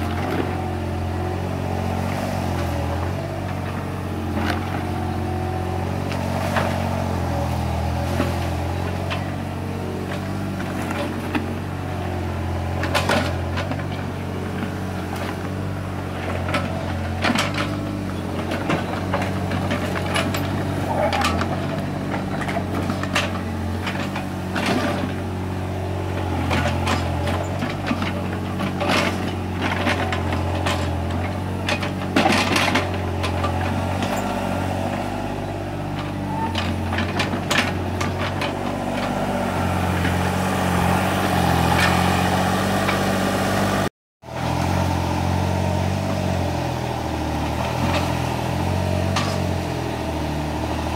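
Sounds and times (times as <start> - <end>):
excavator clanks and knocks: 0.0 - 43.8, 44.4 - 50.9
excavator diesel engine running: 0.0 - 50.9.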